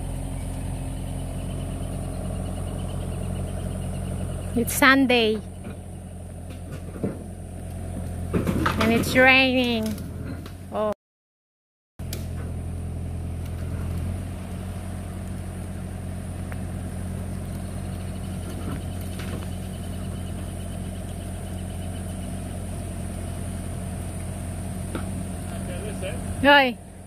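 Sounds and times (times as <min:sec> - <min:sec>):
diesel engine idling: 0:00.0 - 0:10.9, 0:12.0 - 0:27.0.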